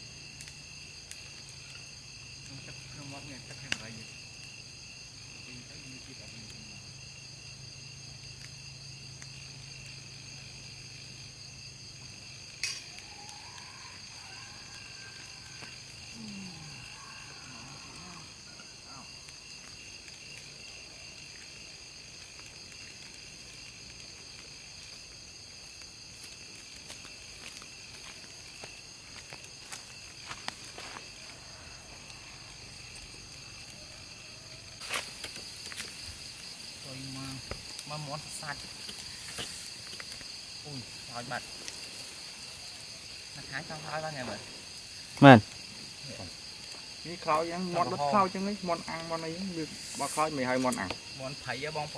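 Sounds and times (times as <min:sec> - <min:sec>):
night insects singing: 0:00.0 - 0:51.9.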